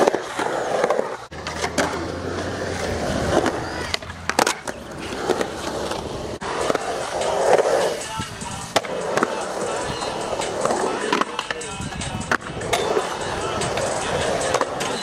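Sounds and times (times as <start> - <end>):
skateboard clacking: 0.0 - 15.0
skateboard wheels rolling on concrete: 0.0 - 15.0.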